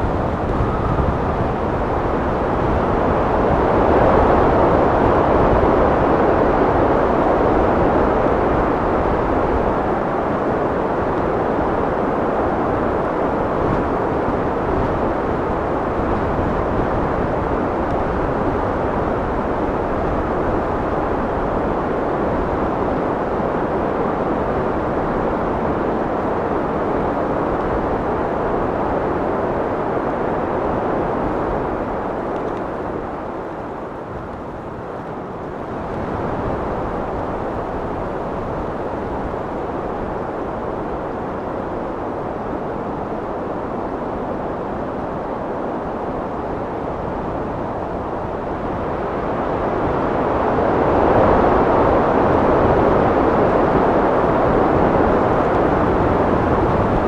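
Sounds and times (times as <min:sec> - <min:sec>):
wind blowing: 0:00.0 - 0:57.0.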